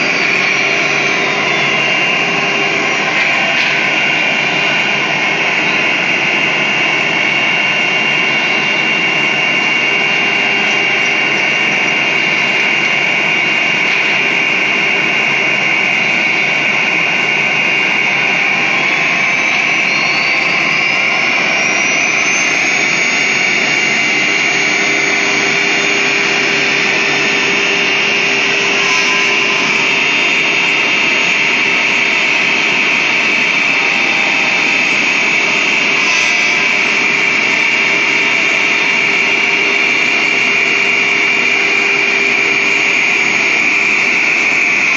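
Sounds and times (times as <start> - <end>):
cnc router running with whine: 0.0 - 44.9
rising machine tone: 0.0 - 44.9.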